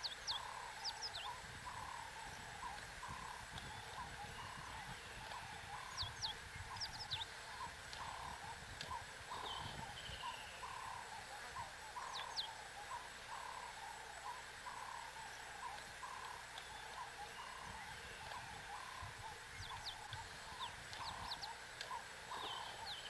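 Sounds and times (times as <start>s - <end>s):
low steady hiss: 0.0s - 23.0s
soft repeated bird notes: 0.0s - 23.0s.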